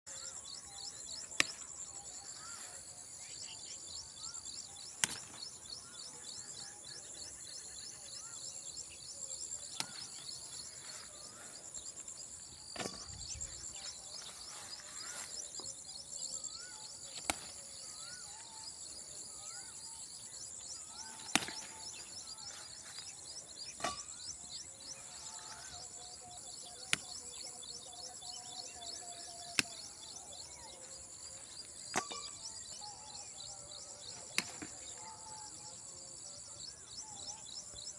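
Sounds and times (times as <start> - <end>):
birds chirping: 0.0 - 37.9
insects trilling: 0.1 - 37.9.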